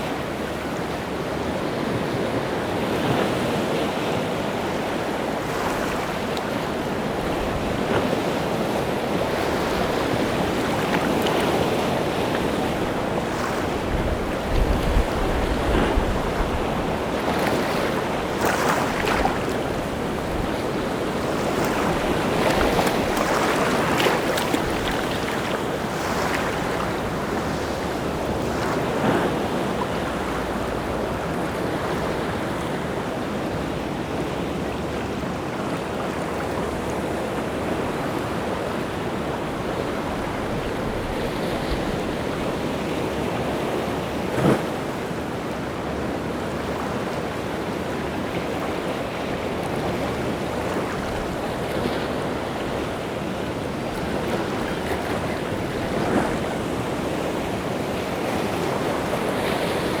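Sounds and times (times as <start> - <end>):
sea surf washing ashore: 0.0 - 60.0.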